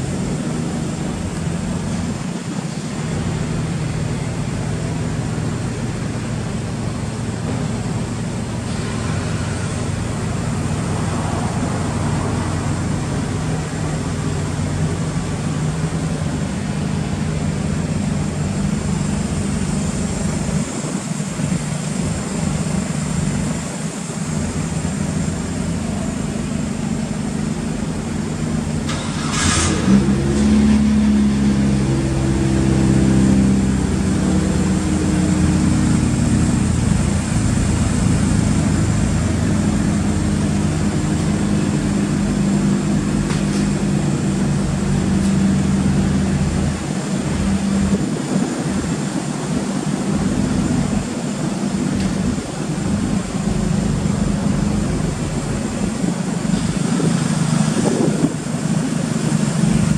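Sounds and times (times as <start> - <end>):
turbocharged car engine idling: 0.0 - 59.9.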